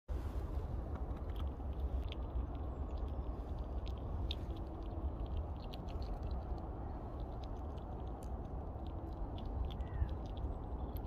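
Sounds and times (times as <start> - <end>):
wind rumble on microphone: 0.1 - 11.0.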